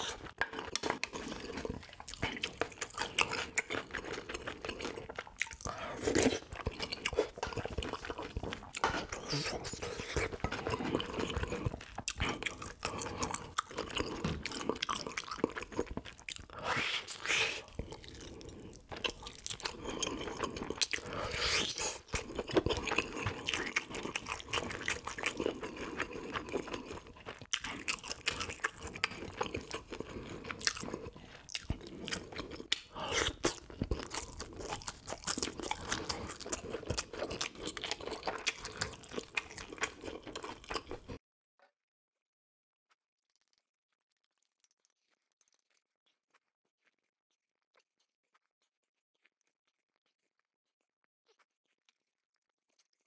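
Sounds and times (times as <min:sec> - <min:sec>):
chewing and crunching fish: 0:00.0 - 0:41.2, 0:43.2 - 0:53.0.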